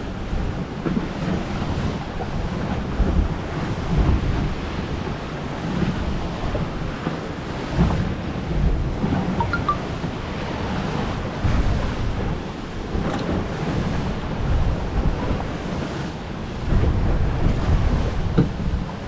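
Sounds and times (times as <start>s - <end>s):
choppy sea washing: 0.0s - 19.0s
wind buffeting microphone: 0.0s - 19.0s.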